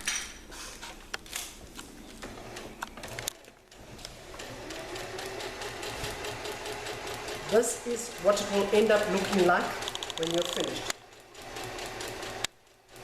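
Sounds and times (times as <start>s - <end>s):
sewing machine stitching: 2.2s - 13.0s.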